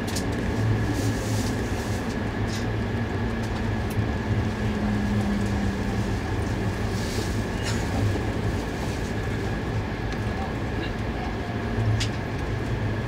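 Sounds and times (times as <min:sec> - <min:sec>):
train low rumble and rushing: 0:00.0 - 0:13.0.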